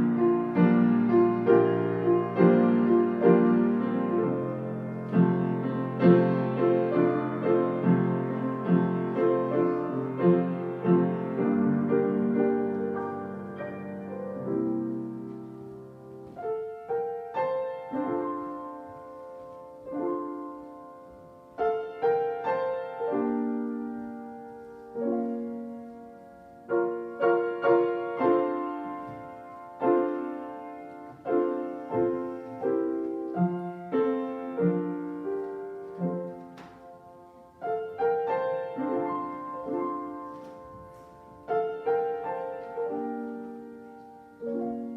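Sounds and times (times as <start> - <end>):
solo piano playing slow piece: 0.0 - 44.9.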